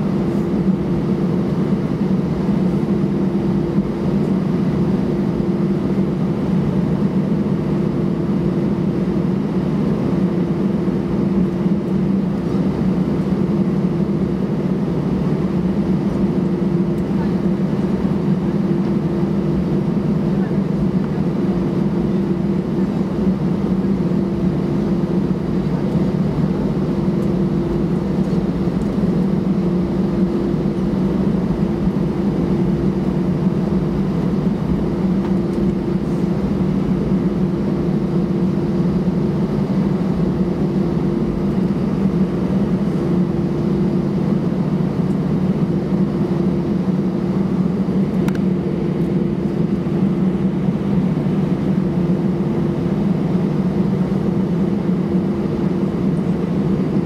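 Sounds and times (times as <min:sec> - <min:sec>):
airplane cabin engine hum: 0:00.0 - 0:57.0.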